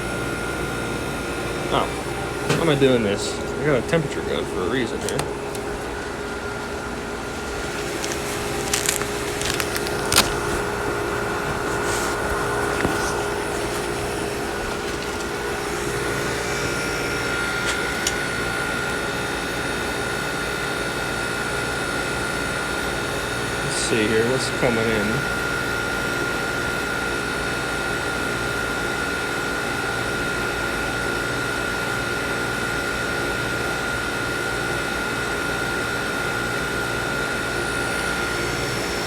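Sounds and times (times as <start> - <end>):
air conditioner humming: 0.0 - 30.0, 35.6 - 39.0.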